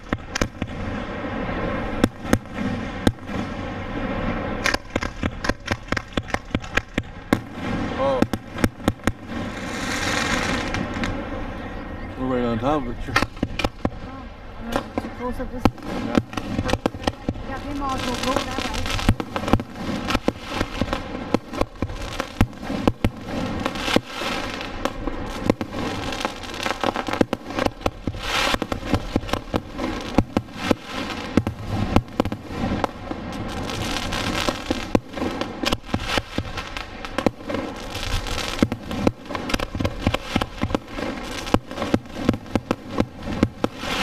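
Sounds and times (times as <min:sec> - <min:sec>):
fireworks bursting: 0:00.0 - 0:44.0
rumble and crackle: 0:00.0 - 0:44.0.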